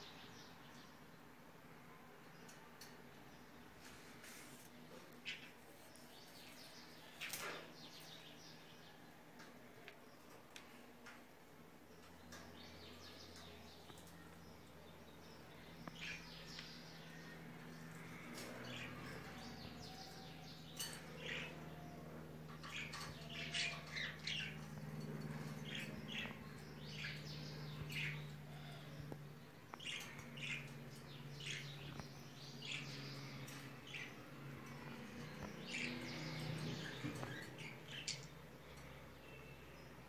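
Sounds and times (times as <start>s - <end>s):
small birds chirping: 0.0s - 40.0s
steady low hum: 0.0s - 40.0s.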